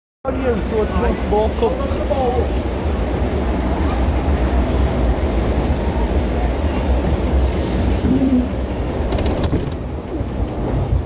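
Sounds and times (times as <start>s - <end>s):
ride boat rumbling on track: 0.3s - 11.0s.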